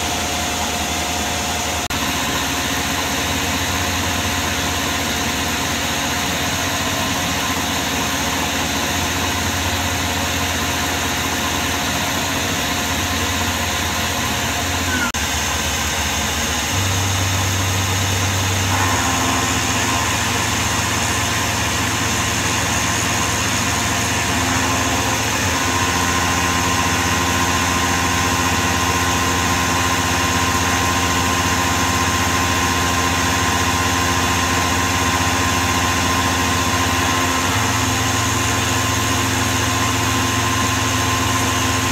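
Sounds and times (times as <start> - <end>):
milling machine cutting aluminium: 0.0 - 41.9.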